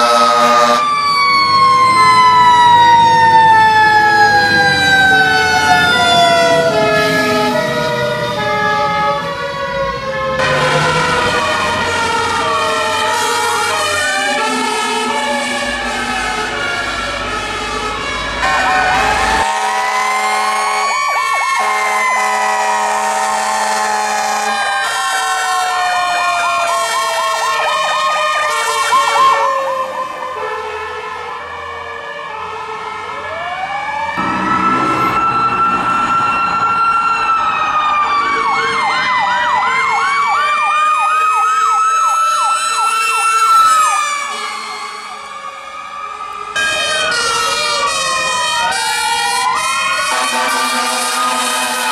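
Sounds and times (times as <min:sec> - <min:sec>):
siren wailing: 0:00.0 - 0:51.9
siren yelping: 0:00.0 - 0:51.9.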